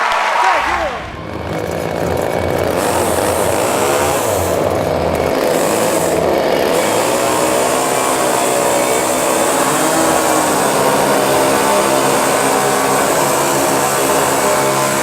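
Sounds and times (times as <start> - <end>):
chainsaw running: 0.0 - 15.0.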